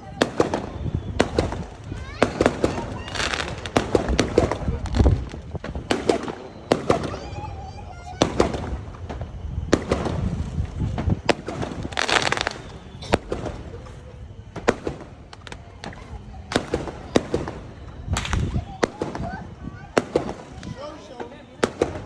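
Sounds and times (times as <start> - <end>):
fireworks crackling: 0.0 - 22.0
firework shells bursting: 0.2 - 22.0.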